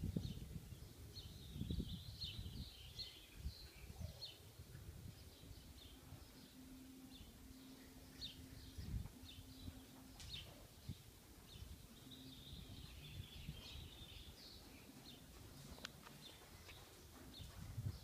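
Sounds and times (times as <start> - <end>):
faint low hum: 0.0 - 18.0
small birds chirping: 0.0 - 18.0.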